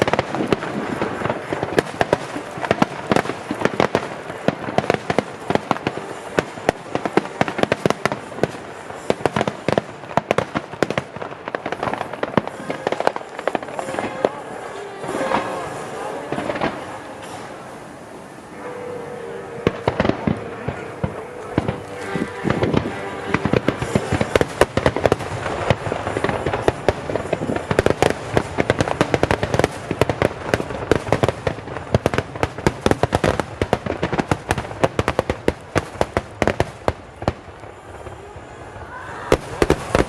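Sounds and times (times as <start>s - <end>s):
fireworks cracking and banging: 0.0s - 40.0s.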